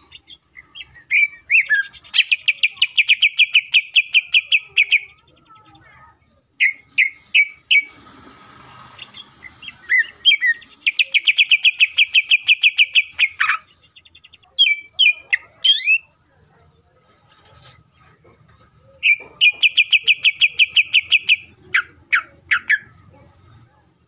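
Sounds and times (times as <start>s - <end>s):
bird singing trills: 0.0s - 8.0s, 9.0s - 16.2s, 18.8s - 23.6s.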